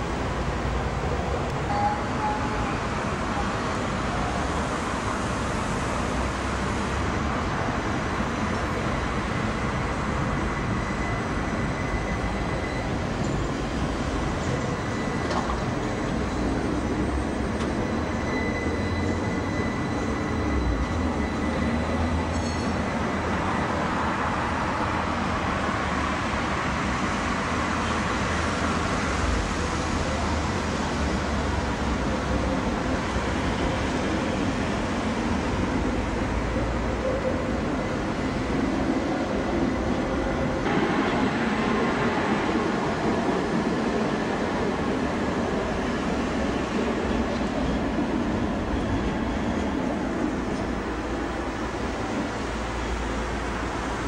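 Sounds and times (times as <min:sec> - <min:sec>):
passing street traffic: 0:00.0 - 0:54.0
tram rumbling on track: 0:00.0 - 0:54.0.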